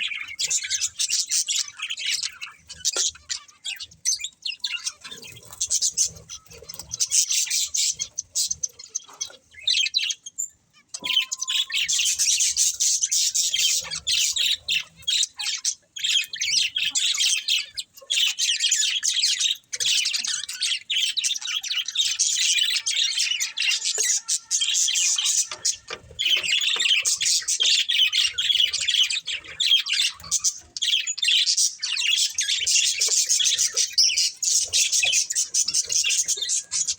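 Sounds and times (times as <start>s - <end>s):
budgerigars chirping and chattering: 0.0s - 36.9s.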